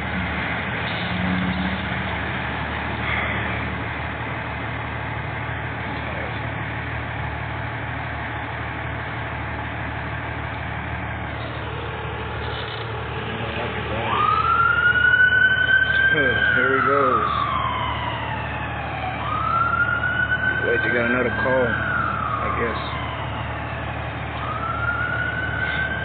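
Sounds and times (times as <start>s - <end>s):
fire engine siren wailing: 0.0s - 26.0s
low vehicle rumble: 0.0s - 26.0s.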